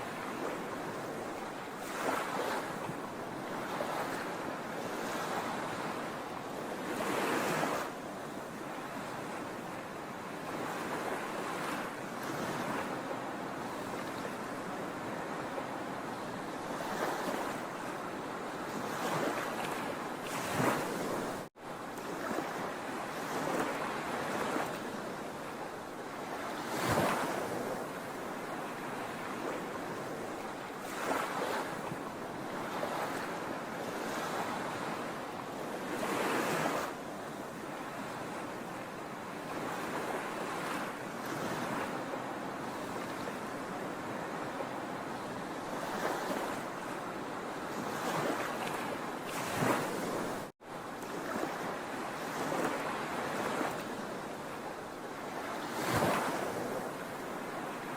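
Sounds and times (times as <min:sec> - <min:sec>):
sea waves breaking on shore: 0:00.0 - 0:57.9.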